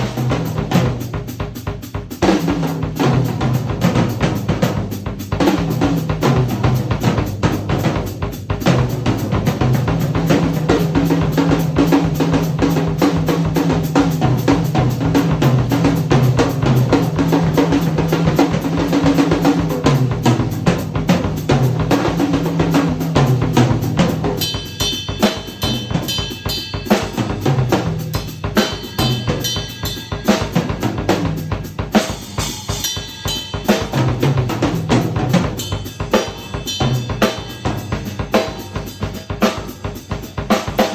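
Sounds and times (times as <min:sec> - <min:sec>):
drum kit groove: 0:00.0 - 0:40.9.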